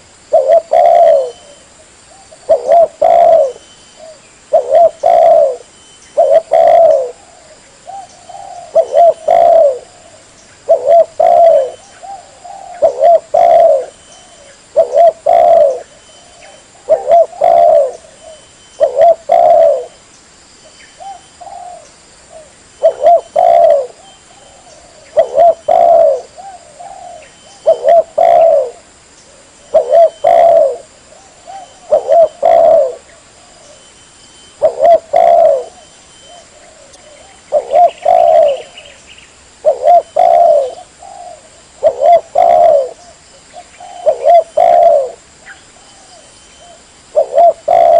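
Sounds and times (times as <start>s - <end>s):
dove cooing: 0.0s - 20.0s, 21.0s - 39.0s, 39.6s - 47.9s.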